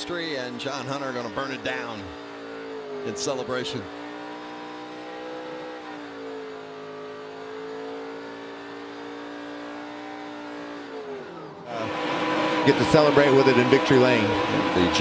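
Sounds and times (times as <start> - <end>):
engine revving high: 0.0 - 15.0.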